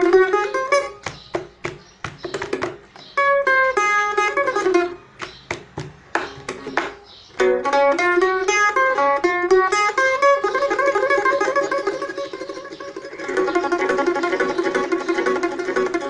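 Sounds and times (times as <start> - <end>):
mandolin picked notes: 0.0 - 16.0
muted mandolin strokes: 0.0 - 16.0.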